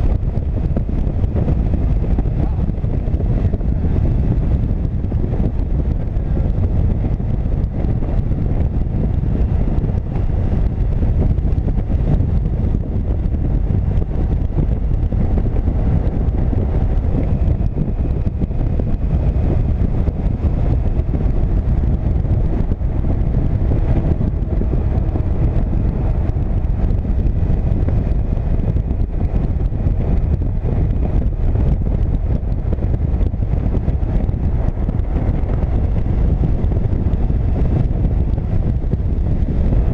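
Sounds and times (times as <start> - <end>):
motorcycle engine and road drone: 0.0 - 39.9
wind rushing over microphone: 0.0 - 39.9.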